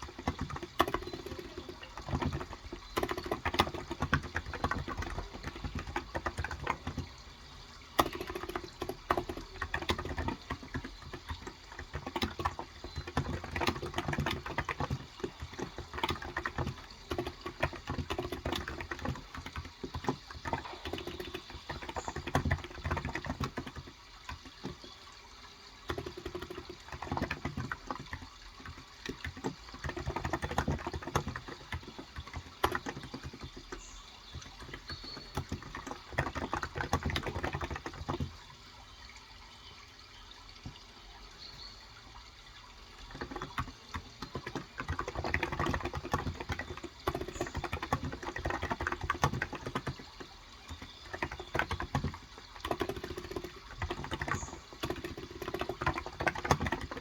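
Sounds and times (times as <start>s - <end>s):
keyboard typing: 0.0s - 25.0s, 25.8s - 38.4s, 43.0s - 57.0s
running water: 0.0s - 57.0s.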